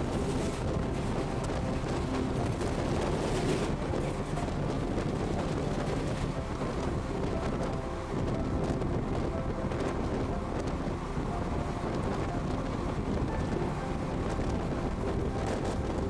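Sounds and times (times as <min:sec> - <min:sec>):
passenger train running: 0:00.0 - 0:16.0
wind buffeting microphone: 0:00.0 - 0:16.0.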